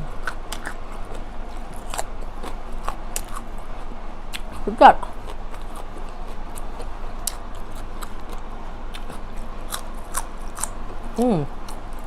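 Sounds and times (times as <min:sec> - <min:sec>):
close-up chewing with crisp clicks: 0:00.1 - 0:10.8.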